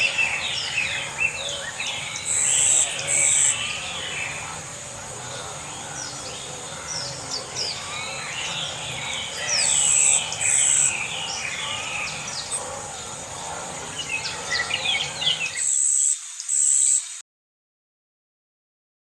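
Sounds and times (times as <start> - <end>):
birds chirping: 0.0 - 17.2
high insect buzz: 0.0 - 17.2.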